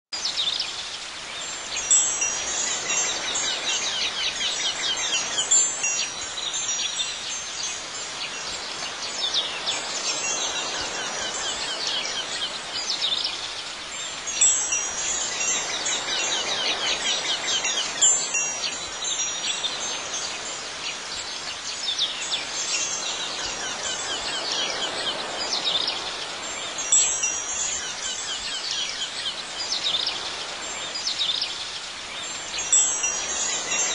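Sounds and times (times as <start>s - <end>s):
soft steady hiss: 0.2s - 33.9s
wind chimes ringing: 1.4s - 31.5s, 32.2s - 33.9s.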